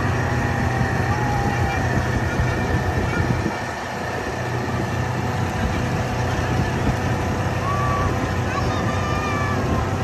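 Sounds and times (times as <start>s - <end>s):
jeep engine drone: 0.0s - 10.0s
wind noise: 0.0s - 10.0s.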